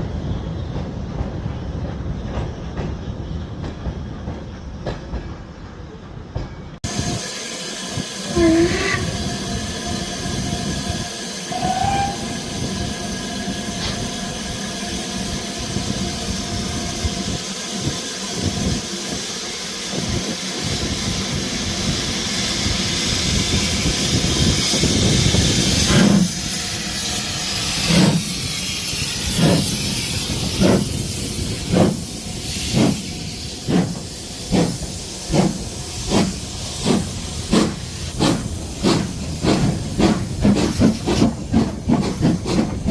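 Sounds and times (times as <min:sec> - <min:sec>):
steam locomotive chuffing: 0:00.0 - 0:42.9
steam hissing: 0:06.8 - 0:42.9.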